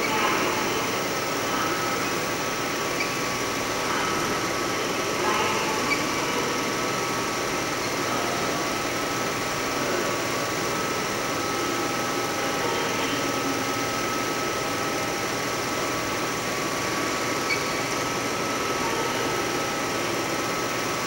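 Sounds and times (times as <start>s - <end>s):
film projector whirring: 0.0s - 21.0s.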